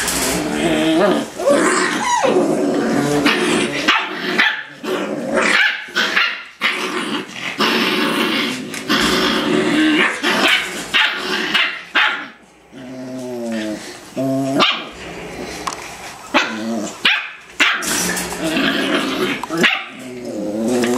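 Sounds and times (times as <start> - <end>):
puppies growling and barking: 0.0 - 20.9.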